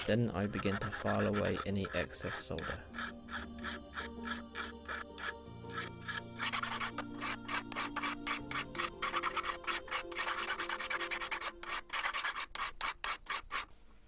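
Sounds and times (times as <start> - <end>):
faint background music: 0.0 - 12.5
hand file rasping on metal: 0.0 - 13.7.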